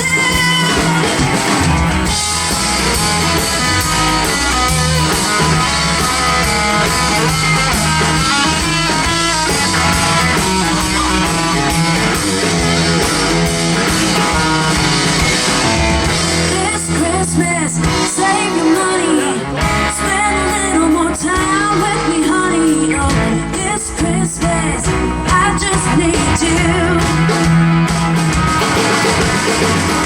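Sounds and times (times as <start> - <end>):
live band playing country-pop: 0.0 - 30.0.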